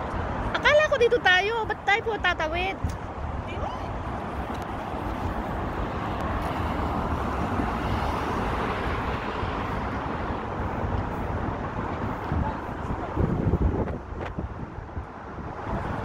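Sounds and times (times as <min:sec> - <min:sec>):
road traffic: 0:00.0 - 0:16.0
wind buffeting microphone: 0:00.0 - 0:16.0.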